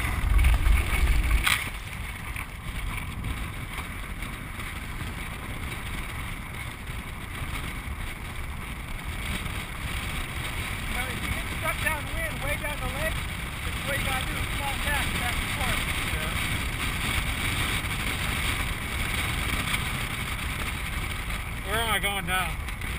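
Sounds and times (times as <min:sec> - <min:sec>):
steady wind: 0:00.0 - 0:22.9
wheels rolling: 0:00.0 - 0:22.9
wind buffeting microphone: 0:00.0 - 0:22.9.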